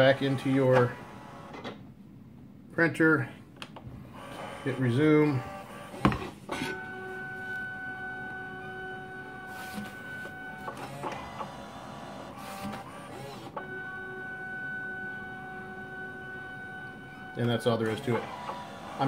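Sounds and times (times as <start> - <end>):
printer clicks and whirring: 0.0 - 1.8, 4.1 - 14.3, 14.9 - 19.0
printer motor whine: 0.0 - 1.8, 4.0 - 19.0.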